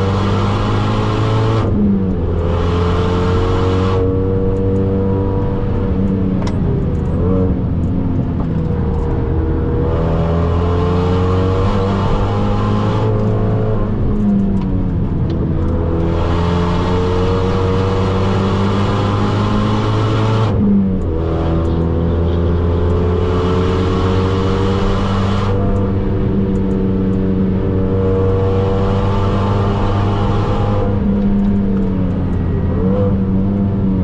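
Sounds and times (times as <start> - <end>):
car engine accelerating: 0.0 - 34.0
road drone: 0.0 - 34.0.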